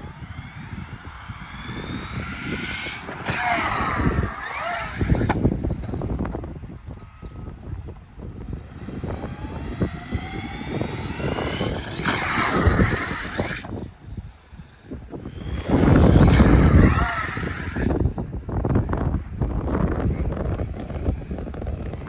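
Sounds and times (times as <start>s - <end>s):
electric motor whining: 0.0s - 22.0s
rushes of noise: 0.0s - 22.0s.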